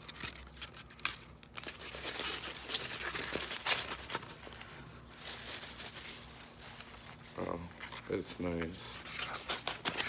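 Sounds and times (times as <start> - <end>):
packing material crinkling: 0.0 - 10.0.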